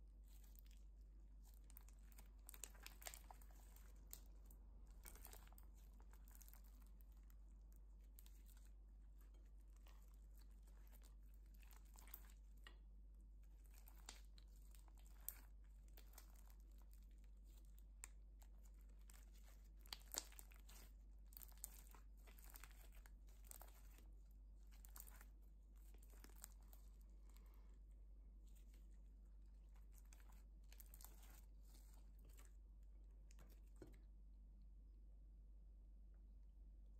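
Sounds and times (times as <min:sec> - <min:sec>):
slime crackling and popping: 0:00.1 - 0:27.6, 0:28.5 - 0:32.6.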